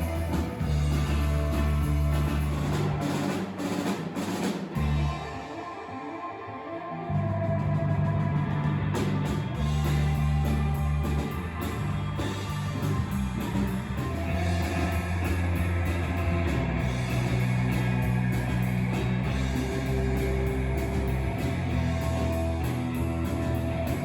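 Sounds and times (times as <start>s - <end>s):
bass line: 0.0s - 3.7s, 4.7s - 5.4s, 7.1s - 24.0s
drum kit: 0.0s - 5.6s, 7.6s - 24.0s
electric guitar: 0.0s - 24.0s.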